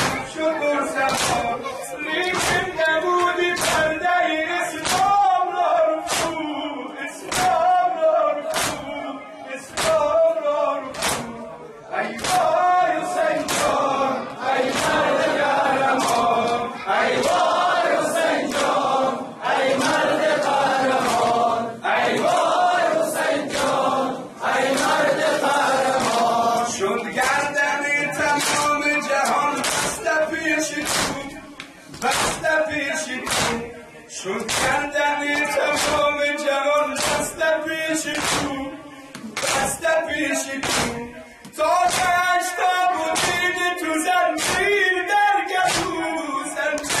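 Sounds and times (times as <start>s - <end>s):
men chanting in unison: 0.0s - 47.0s
men singing a lament: 0.0s - 47.0s
rhythmic chest-beating slaps: 0.0s - 47.0s.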